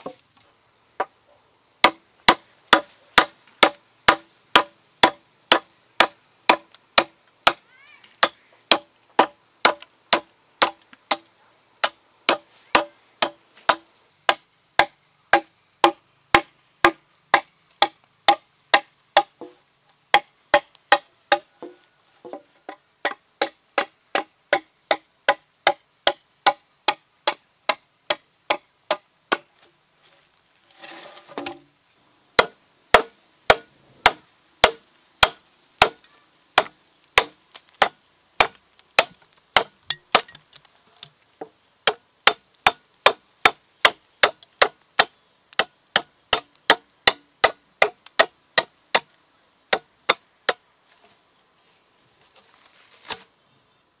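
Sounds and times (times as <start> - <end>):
machete chopping bamboo: 1.8 - 7.6, 8.2 - 29.5, 32.4 - 49.1, 49.7 - 50.6, 53.0 - 53.3.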